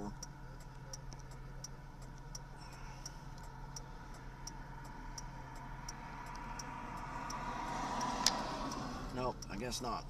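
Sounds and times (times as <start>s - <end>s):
indicator flasher ticking: 0.0s - 10.0s
low vehicle hum: 0.0s - 10.0s.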